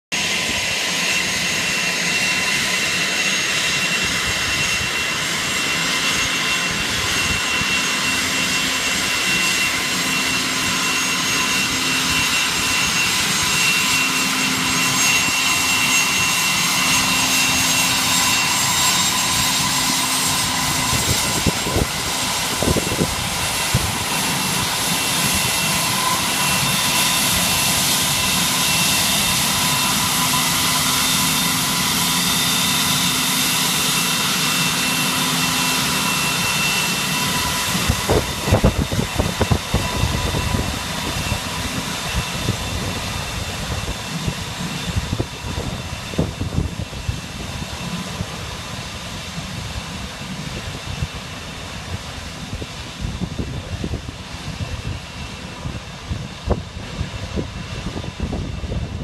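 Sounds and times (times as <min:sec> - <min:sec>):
jet engines running: 0:00.1 - 0:59.0.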